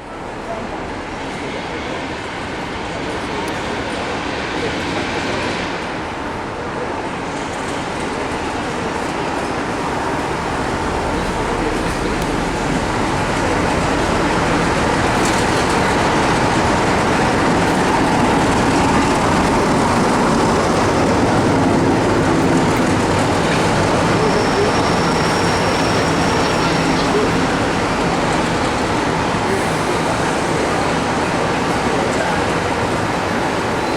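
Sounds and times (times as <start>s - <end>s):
train passing: 0.0s - 33.9s.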